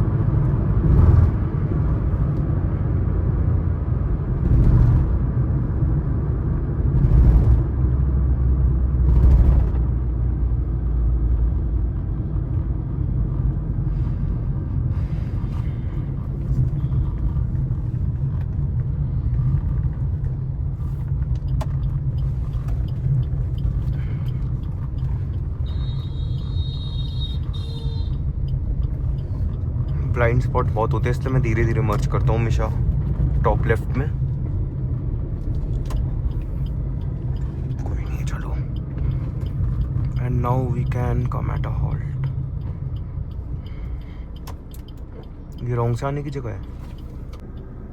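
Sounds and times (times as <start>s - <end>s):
car cabin road rumble: 0.0s - 47.9s.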